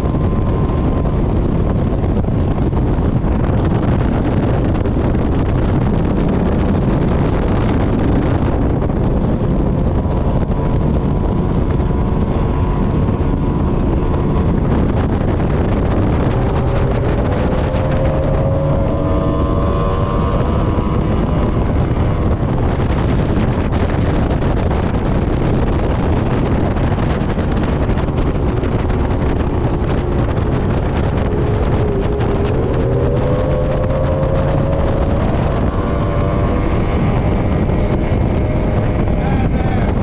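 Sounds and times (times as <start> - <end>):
outboard motor running: 0.0 - 40.0
wind buffeting microphone: 0.0 - 40.0.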